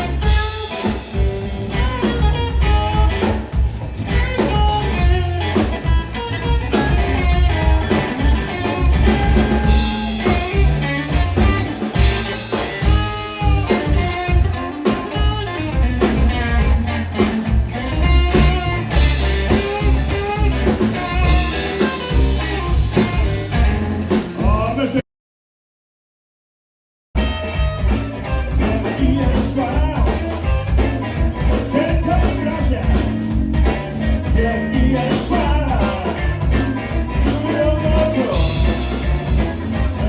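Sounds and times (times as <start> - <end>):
drums: 0.0 - 25.0, 27.2 - 40.0
electric guitar lead: 0.0 - 25.0, 27.2 - 40.0
live blues band playing: 0.0 - 25.0, 27.2 - 40.0.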